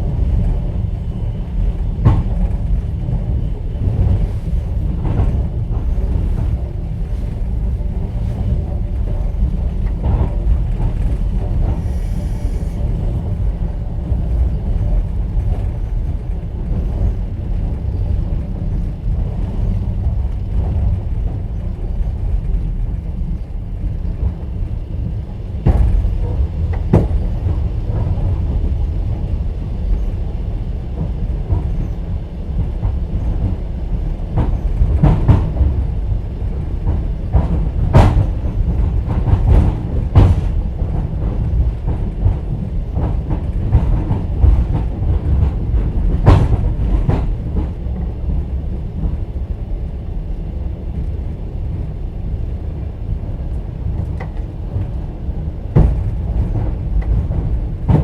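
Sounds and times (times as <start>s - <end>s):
train low rumble: 0.0s - 58.0s
train wheels clattering: 0.0s - 58.0s.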